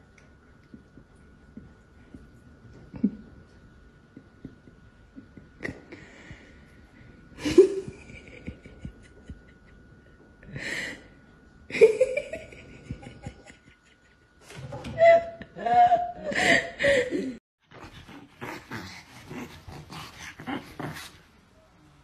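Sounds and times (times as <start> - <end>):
faint high hum: 0.0 - 22.0.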